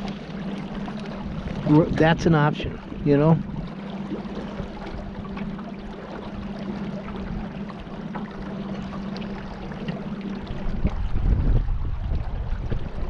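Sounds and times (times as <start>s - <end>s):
boat motor humming: 0.0s - 13.0s
water washing along hull: 0.0s - 13.0s.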